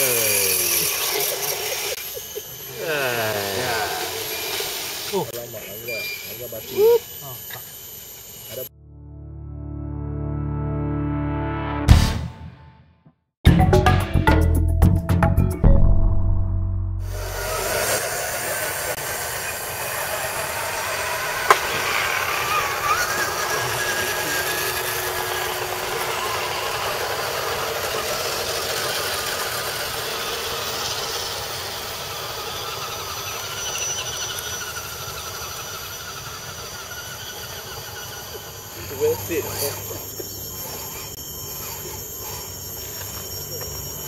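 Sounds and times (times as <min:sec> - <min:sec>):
small electric motors whining: 0:00.0 - 0:08.7, 0:17.0 - 0:44.0.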